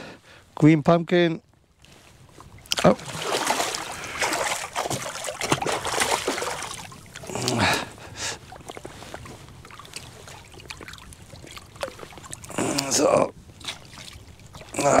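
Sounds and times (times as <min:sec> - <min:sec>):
water splashing at a boat: 0:01.3 - 0:15.0.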